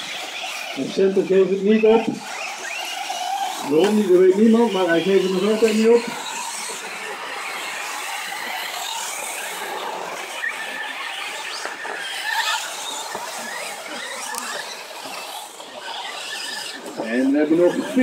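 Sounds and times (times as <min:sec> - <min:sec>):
toy truck motors whining: 0:00.0 - 0:18.0.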